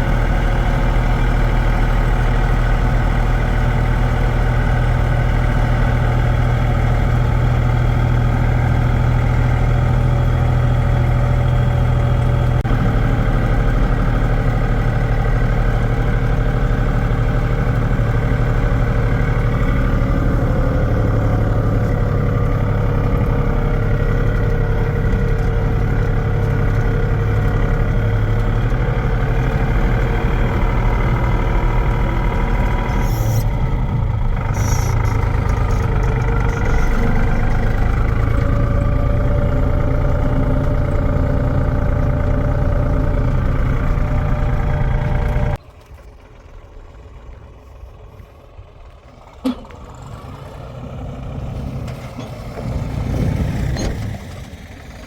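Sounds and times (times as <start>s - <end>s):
heavy machinery humming: 0.0s - 45.6s.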